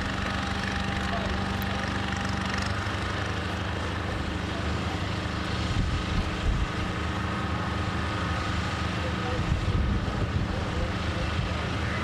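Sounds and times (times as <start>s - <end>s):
diesel engine idling: 0.0s - 12.0s
outdoor crowd noise: 0.0s - 12.0s.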